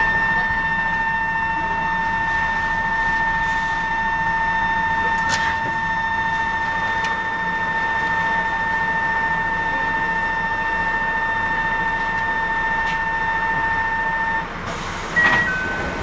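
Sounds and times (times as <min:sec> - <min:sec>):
steady high-pitched tone: 0:00.0 - 0:16.0.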